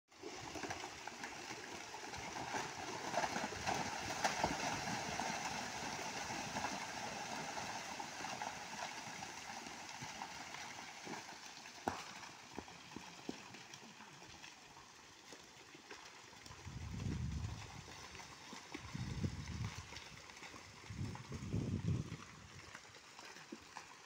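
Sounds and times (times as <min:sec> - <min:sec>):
rocks and soil tumbling: 0:00.2 - 0:24.0.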